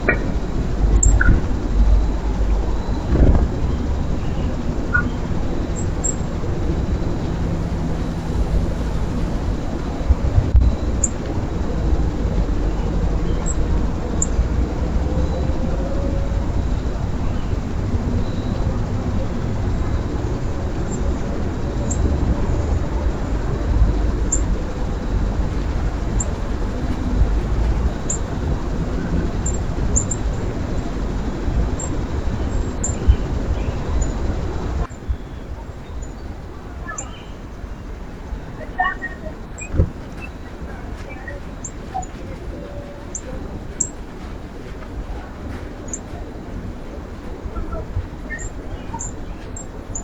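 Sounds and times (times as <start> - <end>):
low outdoor rumble: 0.0 - 50.0
small birds chipping: 0.0 - 50.0.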